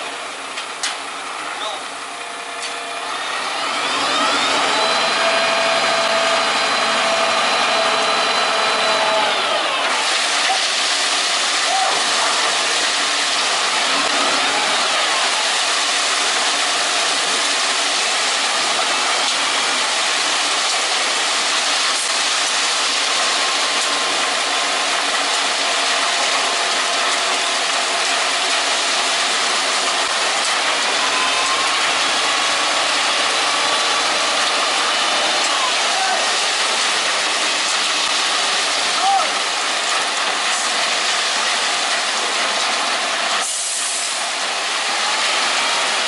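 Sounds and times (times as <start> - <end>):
heavy construction machinery running: 0.0 - 46.0.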